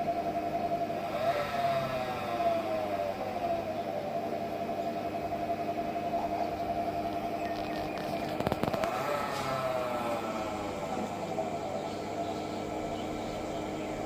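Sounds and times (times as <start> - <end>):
washing machine whining: 0.0 - 14.0.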